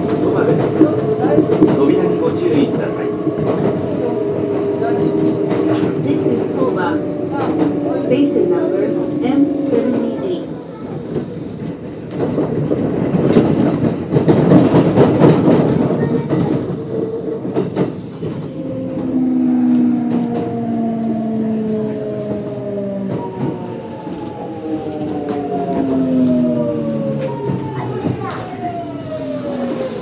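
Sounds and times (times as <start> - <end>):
train wheels rolling on rails: 0.0 - 30.0.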